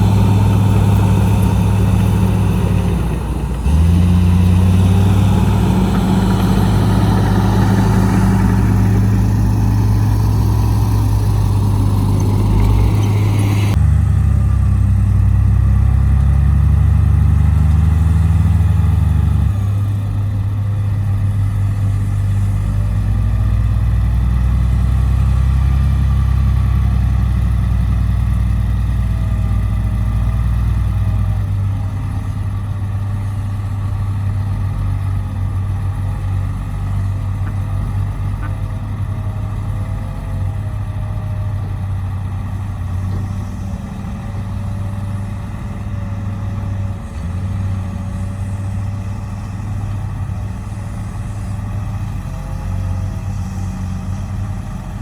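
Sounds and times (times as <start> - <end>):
dump truck engine running: 0.0 - 55.0.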